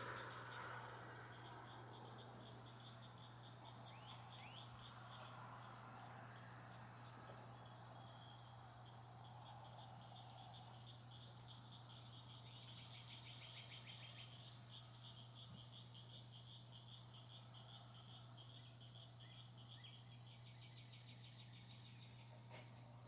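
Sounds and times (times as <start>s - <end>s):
insects chirping in trills: 0.0s - 23.0s.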